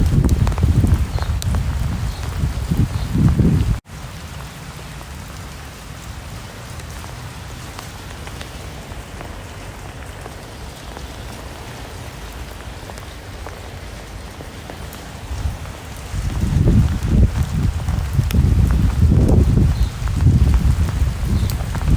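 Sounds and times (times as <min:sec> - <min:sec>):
steady rain with ticking drops: 0:00.0 - 0:21.9.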